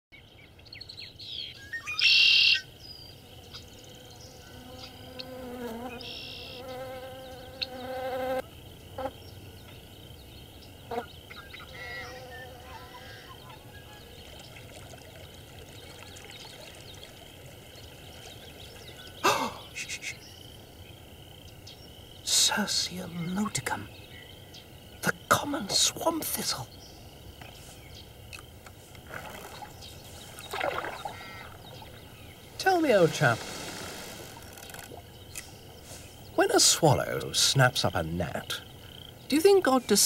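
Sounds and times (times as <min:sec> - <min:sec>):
faint insect drone: 0:00.2 - 0:40.0
insect buzzing: 0:02.6 - 0:13.5, 0:14.8 - 0:36.7.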